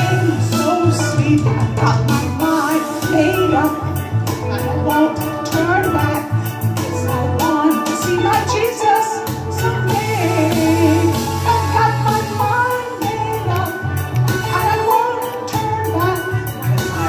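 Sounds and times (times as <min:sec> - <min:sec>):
backing track with bass and percussion: 0:00.0 - 0:17.0
person singing into a microphone: 0:00.0 - 0:17.0.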